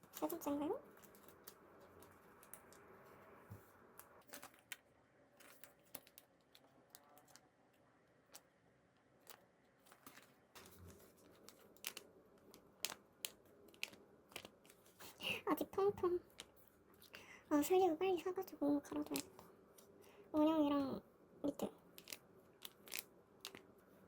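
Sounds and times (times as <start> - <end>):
cards and plastic sleeves rustling: 0.0 - 20.0, 21.5 - 24.0.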